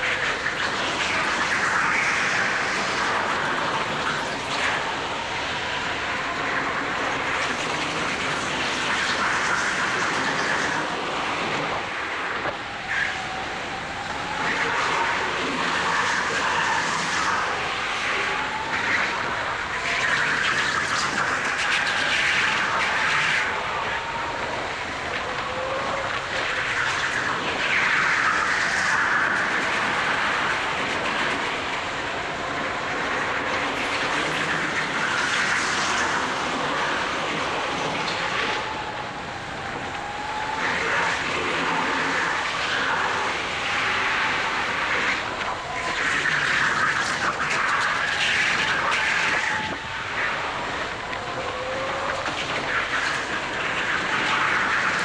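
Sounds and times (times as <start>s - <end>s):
rushing wind noise: 0.0s - 55.0s.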